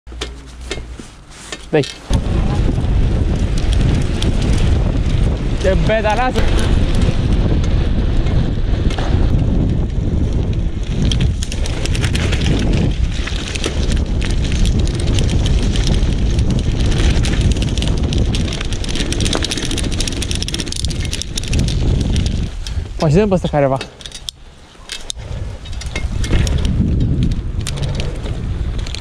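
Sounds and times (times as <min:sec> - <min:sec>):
bike rattles and clicks: 0:00.1 - 0:29.0
tyres rolling on dirt track: 0:00.1 - 0:29.0
wind rushing over microphone: 0:02.0 - 0:29.0.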